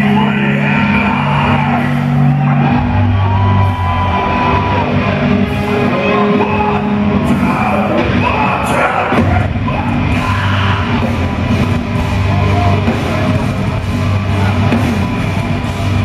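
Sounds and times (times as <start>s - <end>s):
heavy metal band playing live: 0.0s - 16.0s.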